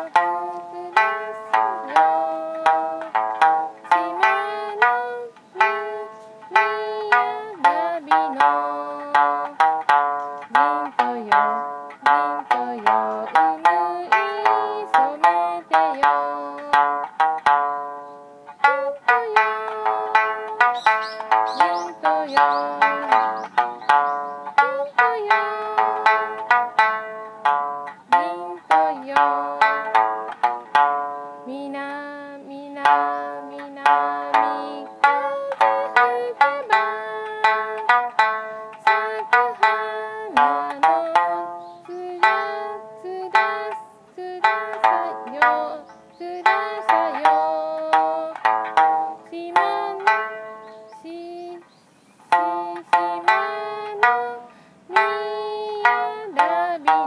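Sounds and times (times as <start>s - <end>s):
plucked lute melody: 0.0s - 57.0s.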